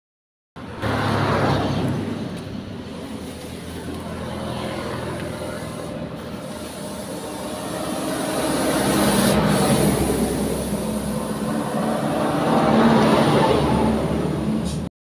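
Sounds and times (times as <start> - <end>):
vehicle engine rumbling: 0.6 - 14.9.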